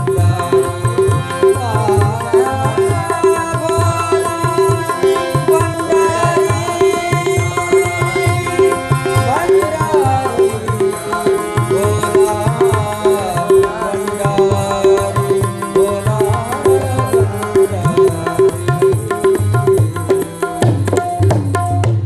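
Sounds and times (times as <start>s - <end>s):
harmonium: 0.0s - 22.0s
tabla strokes: 0.0s - 22.0s.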